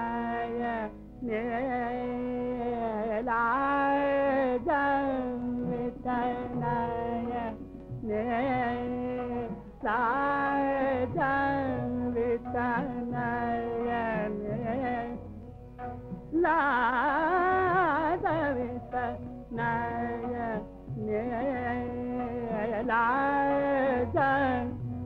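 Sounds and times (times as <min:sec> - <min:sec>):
person singing classical-style music: 0:00.0 - 0:25.0.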